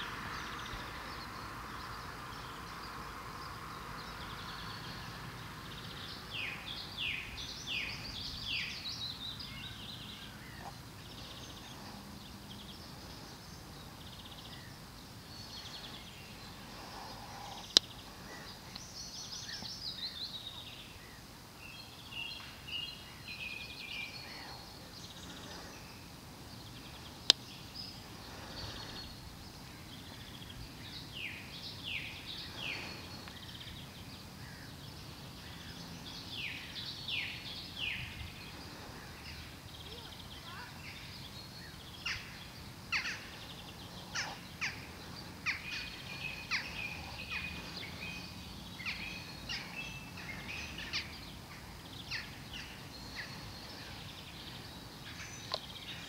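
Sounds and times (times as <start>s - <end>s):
low background noise: 0.0s - 56.0s
songbirds singing: 0.0s - 56.0s.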